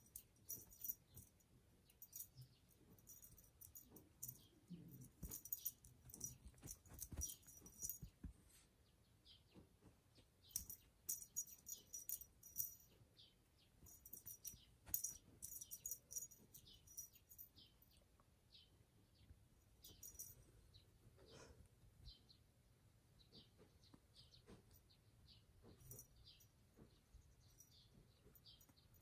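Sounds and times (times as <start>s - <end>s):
faint jingling and clicking: 0.0s - 18.6s, 19.2s - 22.3s, 23.2s - 29.0s.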